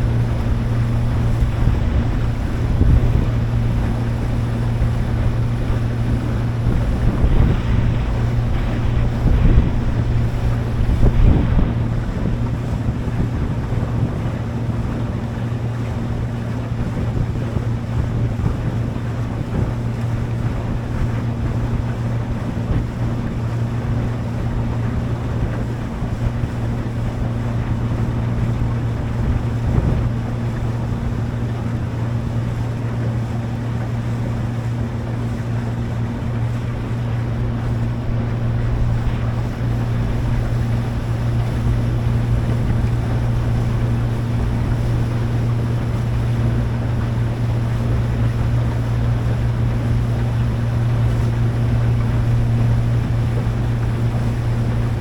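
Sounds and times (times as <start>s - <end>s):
motorboat engine humming: 0.0s - 55.0s
water rushing: 0.0s - 55.0s
wind noise on microphone: 0.0s - 55.0s.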